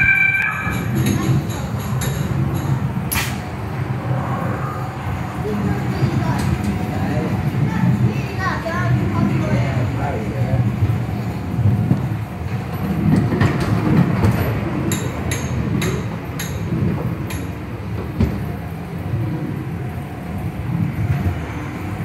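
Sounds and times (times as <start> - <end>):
ride car rumbling along track: 0.0 - 22.0.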